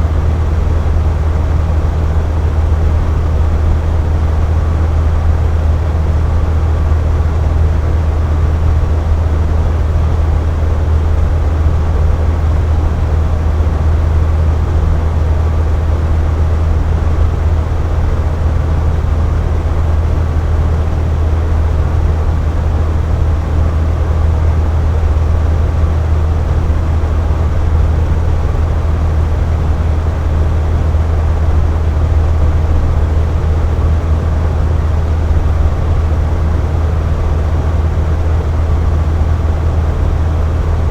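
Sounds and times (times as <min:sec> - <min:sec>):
box fan running: 0:00.0 - 0:40.9.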